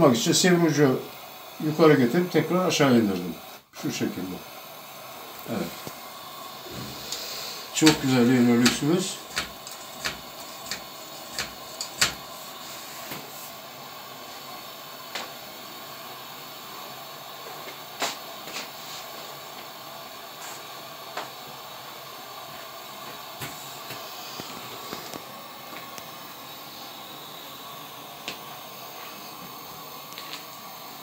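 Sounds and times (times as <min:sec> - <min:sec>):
pressure lantern hissing: 0:00.0 - 0:31.0.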